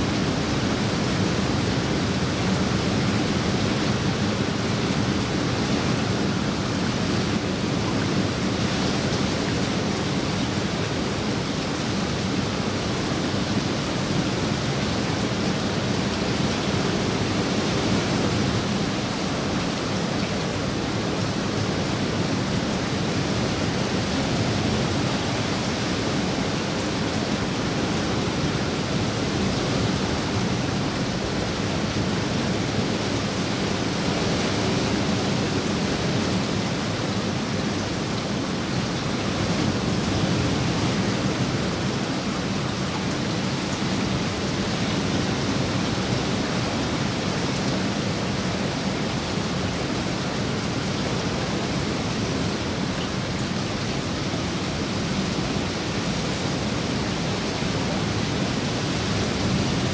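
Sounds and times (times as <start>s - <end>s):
rain falling on pool water: 0.0s - 59.9s.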